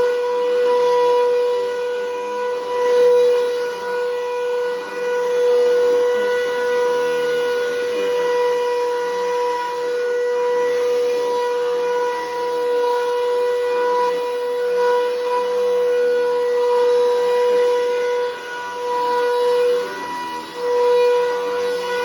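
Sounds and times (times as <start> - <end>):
vacuum cleaner high whine: 0.0 - 22.0.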